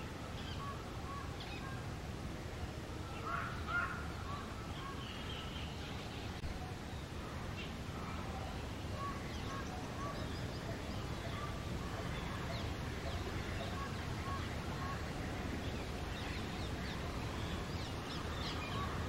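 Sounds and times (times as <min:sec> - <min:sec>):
small birds chirping: 0:03.2 - 0:19.0.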